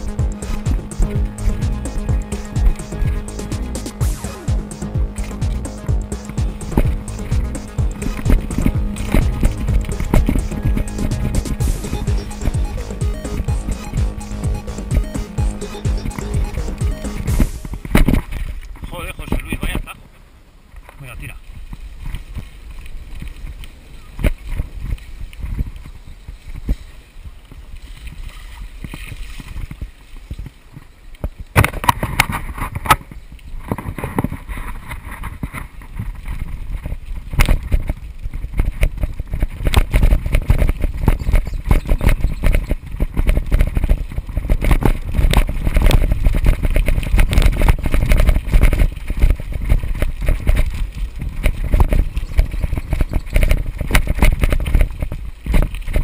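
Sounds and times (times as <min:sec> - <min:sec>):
bike rattling over rough trail: 0:00.0 - 0:56.0
wind rumbling on microphone: 0:00.0 - 0:56.0.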